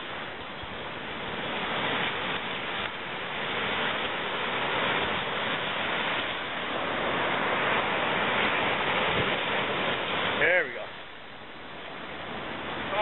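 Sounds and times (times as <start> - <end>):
ocean surf breaking over rocks: 0.0 - 13.0.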